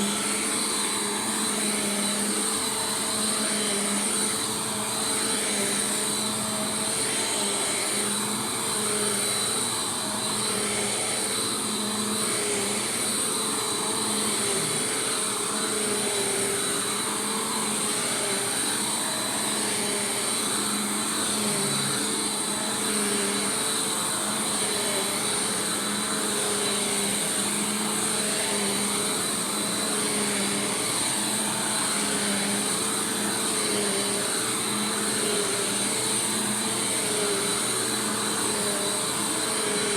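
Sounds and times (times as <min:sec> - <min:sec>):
upright vacuum cleaner whine: 0:00.0 - 0:39.9.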